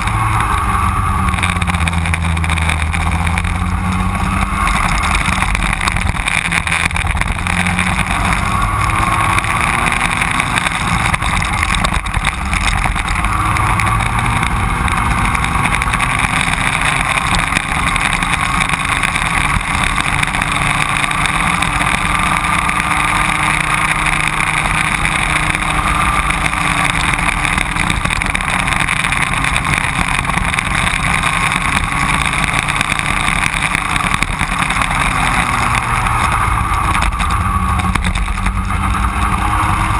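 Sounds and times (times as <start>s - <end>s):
racing kart engine running hard: 0.0s - 39.9s.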